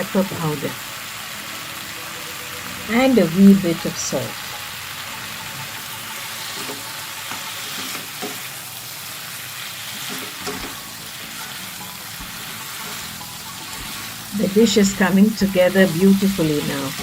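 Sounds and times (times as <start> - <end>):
food sizzling in a hot pan: 0.0 - 17.0.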